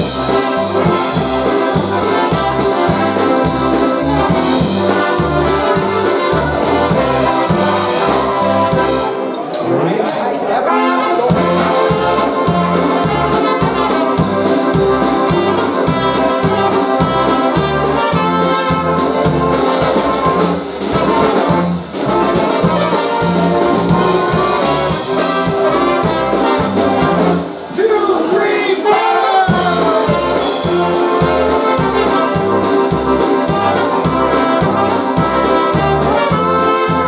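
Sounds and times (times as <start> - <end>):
polka band playing: 0.0 - 37.0.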